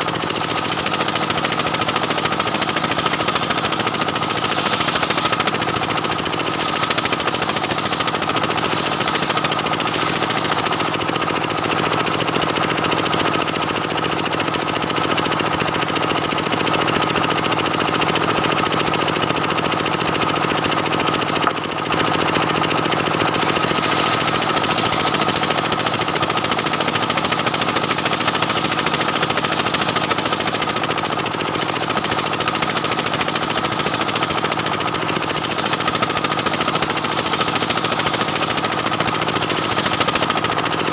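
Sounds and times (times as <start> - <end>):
chainsaw cutting through wood: 0.0 - 40.9.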